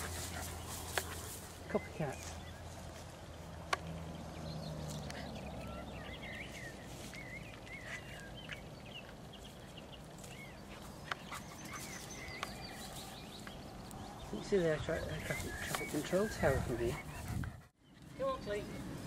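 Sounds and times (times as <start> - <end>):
outdoor background rumble: 0.0 - 19.0
small birds chirping: 0.0 - 19.0.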